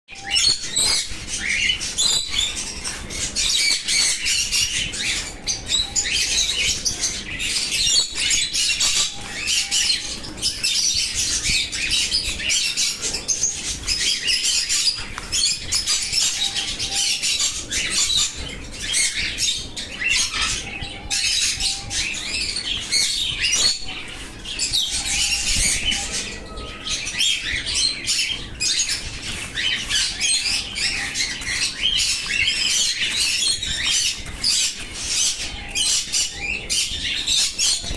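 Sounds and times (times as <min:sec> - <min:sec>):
small birds chirping: 0:00.1 - 0:37.9
wings fluttering: 0:00.2 - 0:37.9.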